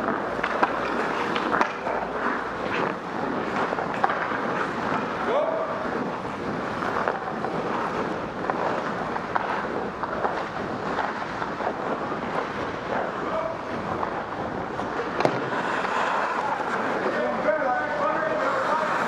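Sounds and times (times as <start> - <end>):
air rushing over microphone: 0.0 - 19.0
skates scraping on ice: 0.0 - 19.0.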